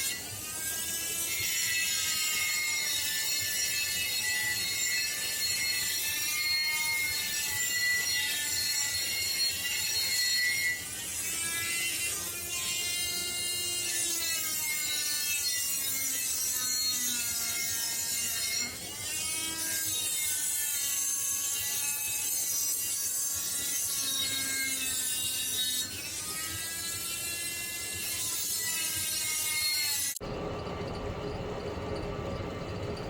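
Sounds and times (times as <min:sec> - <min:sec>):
rotary tool grinding steel: 0:00.0 - 0:33.0.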